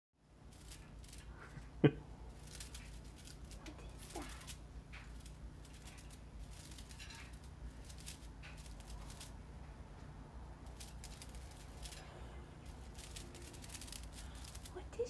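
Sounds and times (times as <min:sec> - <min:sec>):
beak crunching dry fibres: 0:00.2 - 0:09.8, 0:10.4 - 0:15.0
steady low hum: 0:00.2 - 0:15.0.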